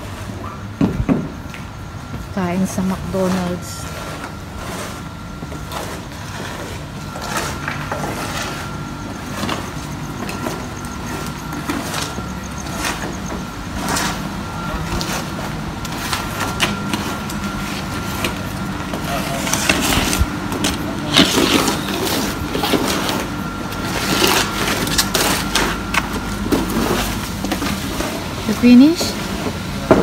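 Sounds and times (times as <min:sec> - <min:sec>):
low machine hum: 0:00.0 - 0:30.0
shovels scraping concrete: 0:02.6 - 0:29.4.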